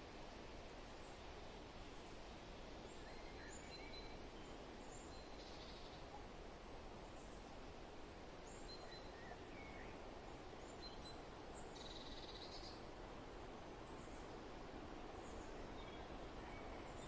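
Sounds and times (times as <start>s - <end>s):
soft steady wind: 0.0s - 17.0s.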